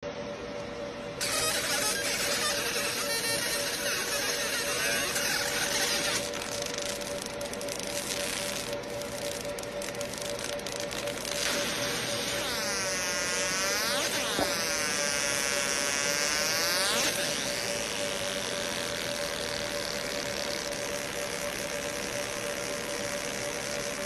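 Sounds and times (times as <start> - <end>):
laser engraver hum: 0.2 - 24.0
high whine sweeping in pitch: 1.0 - 24.0.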